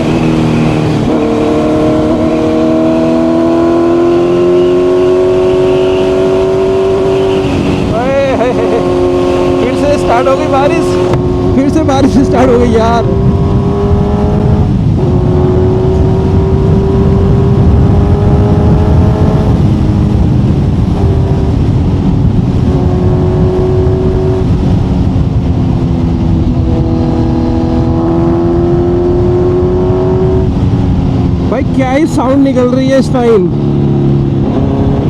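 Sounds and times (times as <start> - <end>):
motorcycle engine while riding: 0.0 - 35.0.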